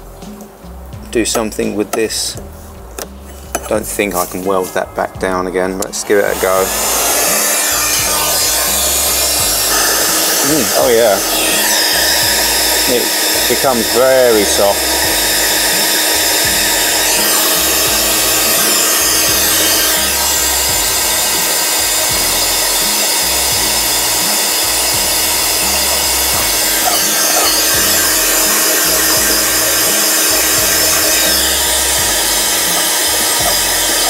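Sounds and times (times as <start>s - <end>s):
background music: 0.0s - 34.0s
hot air gun blowing: 6.2s - 34.0s
metal scraper rubbing plastic: 6.3s - 34.0s.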